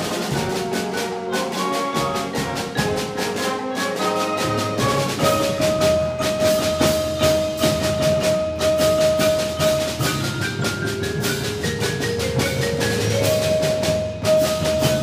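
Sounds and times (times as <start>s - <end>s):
driving percussion beat: 0.0s - 15.0s.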